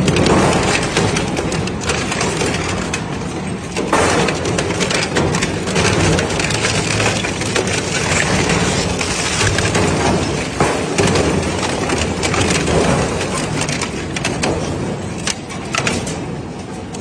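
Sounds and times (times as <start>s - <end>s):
metal cracks and bangs: 0.0s - 17.0s
shredder crunching scrap metal: 0.0s - 17.0s.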